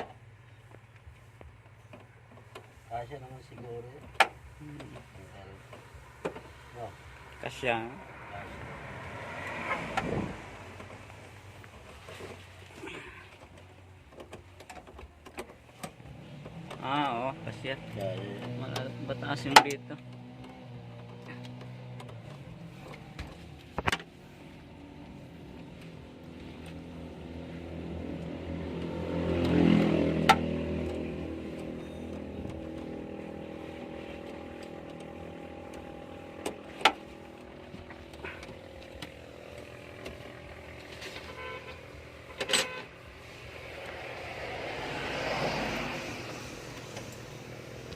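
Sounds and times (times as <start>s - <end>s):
vehicle engine running: 0.0s - 47.9s.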